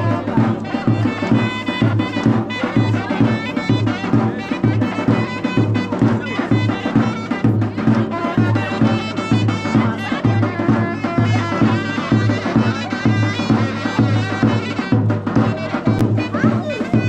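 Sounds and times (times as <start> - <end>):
folk melody instrument: 0.0 - 17.0
steady drum beat: 0.0 - 17.0.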